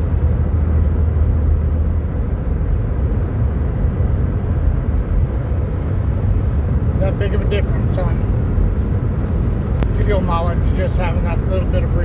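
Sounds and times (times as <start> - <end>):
minivan road and engine rumble: 0.0 - 12.0.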